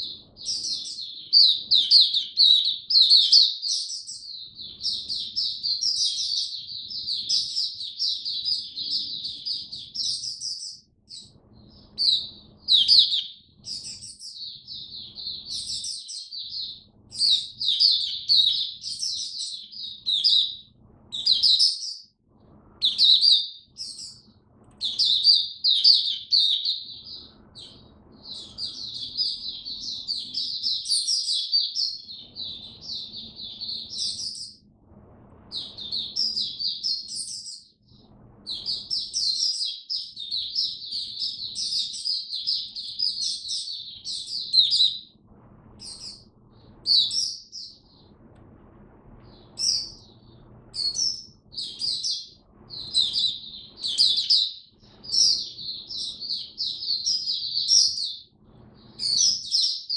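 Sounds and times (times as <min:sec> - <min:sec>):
bird twittering warble: 0:00.0 - 0:34.7, 0:35.4 - 0:48.2, 0:49.1 - 0:59.9.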